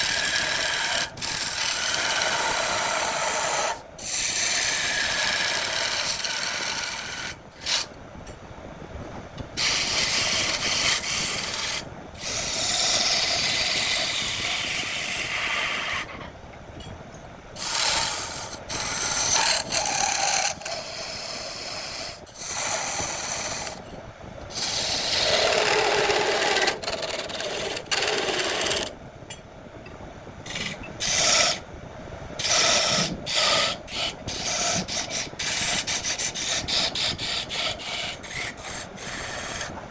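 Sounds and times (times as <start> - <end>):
tool scraping wood on lathe: 0.0 - 7.9, 9.6 - 16.2, 17.6 - 23.8, 24.5 - 28.9, 30.5 - 31.6, 32.4 - 39.7.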